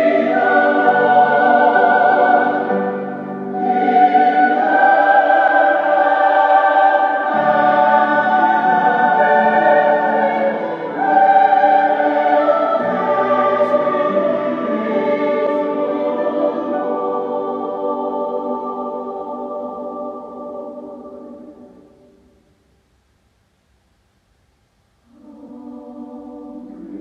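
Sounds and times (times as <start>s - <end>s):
choir singing held chords: 0.0s - 22.6s, 25.0s - 27.0s.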